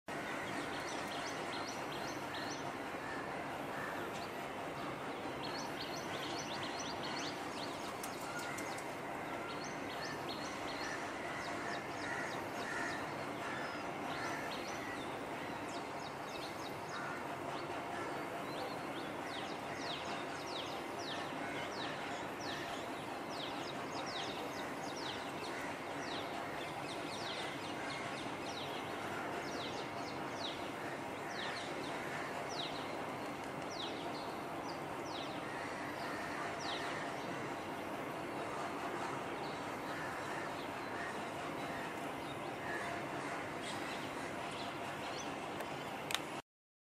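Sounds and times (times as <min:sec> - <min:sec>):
steady background hiss: 0:00.1 - 0:46.4.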